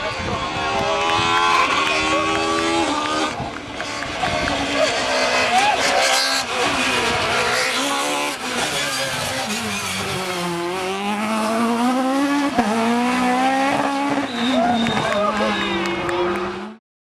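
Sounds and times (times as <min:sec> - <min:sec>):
rally car engine at high revs: 0:00.0 - 0:16.8.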